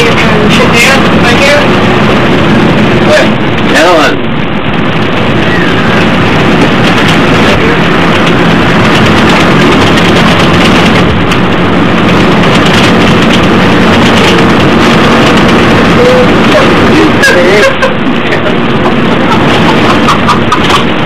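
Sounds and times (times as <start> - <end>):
bus engine drone: 0.0 - 21.0
low hum: 0.0 - 21.0
road noise: 0.0 - 21.0.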